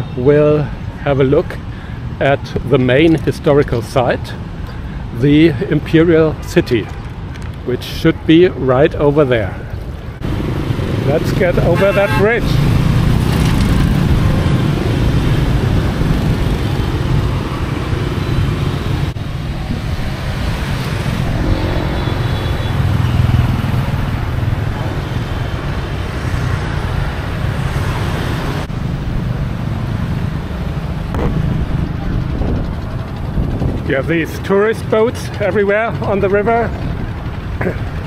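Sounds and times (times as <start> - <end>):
scooters and cars passing: 0.0 - 38.0.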